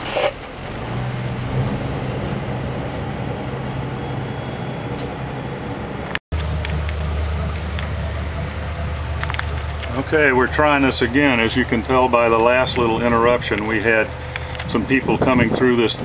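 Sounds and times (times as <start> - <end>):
boat engine humming: 0.0 - 16.0
water noise: 0.0 - 16.0
wind: 0.0 - 16.0.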